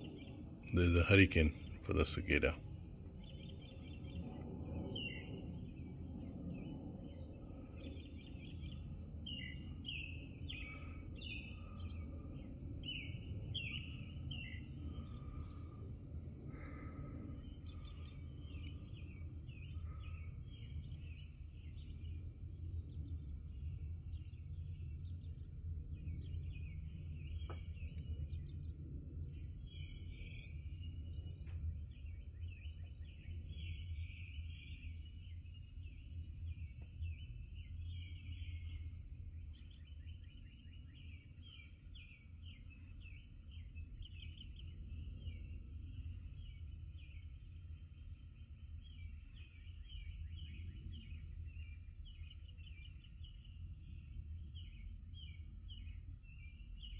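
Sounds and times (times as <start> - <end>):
low background rumble: 0.0 - 51.8
small birds chirping: 0.0 - 56.9.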